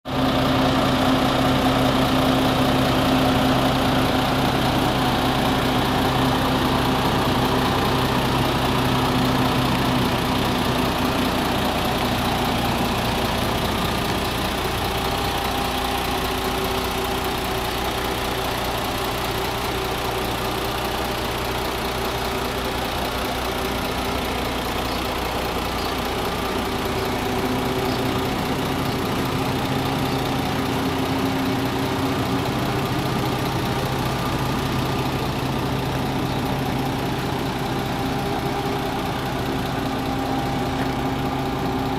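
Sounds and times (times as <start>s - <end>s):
truck diesel engine idling: 0.1s - 41.9s.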